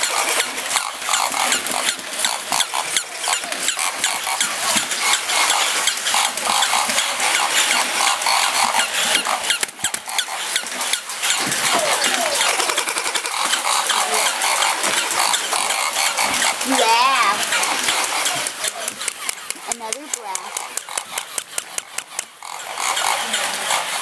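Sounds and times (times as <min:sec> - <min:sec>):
toy motors whirring and clicking: 0:00.0 - 0:24.0.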